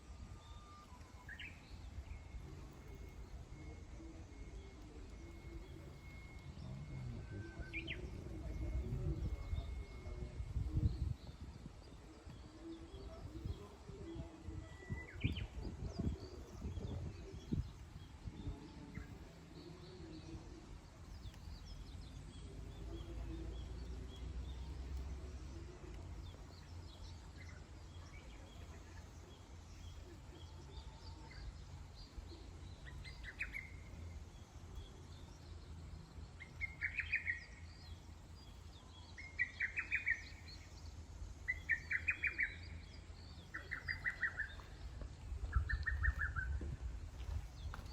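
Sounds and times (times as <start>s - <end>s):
birds chirping: 0.0s - 47.9s
steady low rumble: 0.0s - 47.9s.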